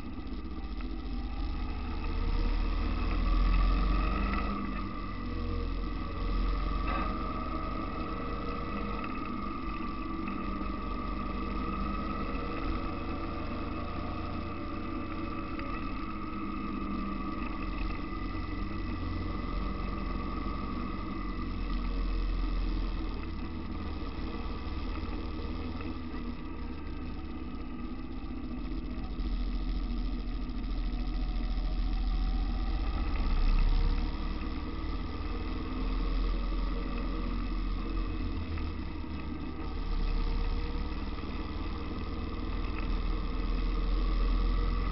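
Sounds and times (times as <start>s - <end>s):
constant high tone: 0.0s - 44.9s
motorcycle engine running: 0.0s - 44.9s.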